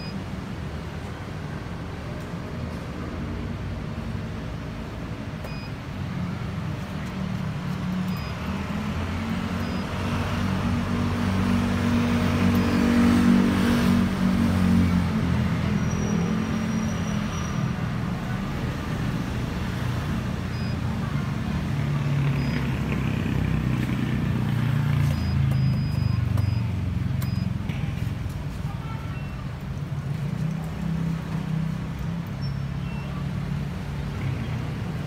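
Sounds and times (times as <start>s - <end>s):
steady traffic noise: 0.0s - 35.0s.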